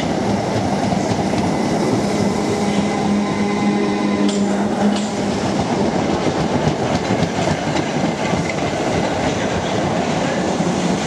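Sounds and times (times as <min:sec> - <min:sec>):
rumble of wheels on rail: 0:00.0 - 0:11.0.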